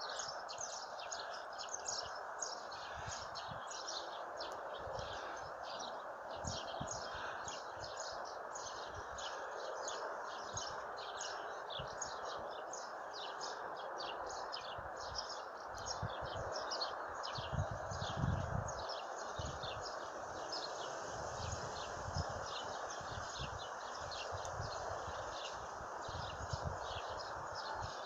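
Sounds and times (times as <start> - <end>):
outdoor background rush: 0.0 - 28.0
small birds chirping rapidly: 0.0 - 28.0.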